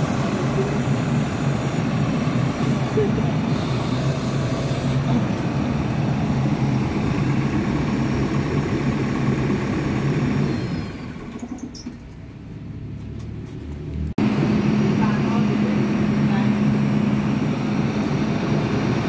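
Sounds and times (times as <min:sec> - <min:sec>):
diesel engine idling: 0:00.0 - 0:12.7, 0:14.2 - 0:19.0.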